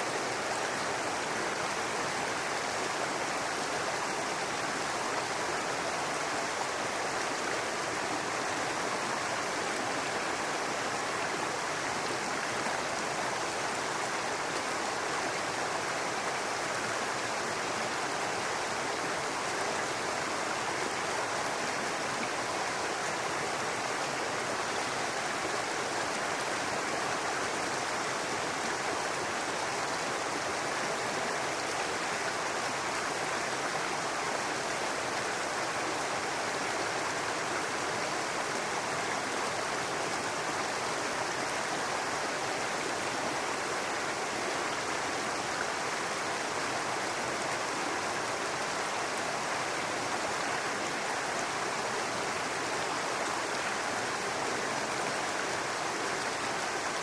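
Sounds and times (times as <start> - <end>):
brook water running over stones: 0.0 - 57.0.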